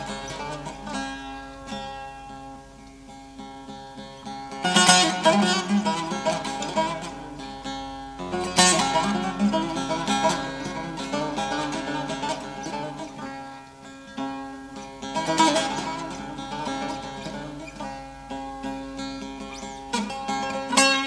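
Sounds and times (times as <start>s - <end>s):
plucked string instrument melody: 0.0s - 21.0s.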